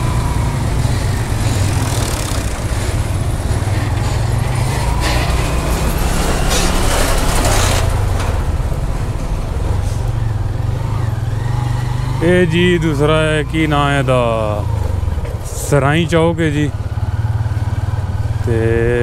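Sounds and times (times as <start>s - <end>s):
rushing noise of passing truck: 0.0s - 18.5s
motorcycle engine running: 0.0s - 19.0s
road and wind noise: 0.0s - 19.0s.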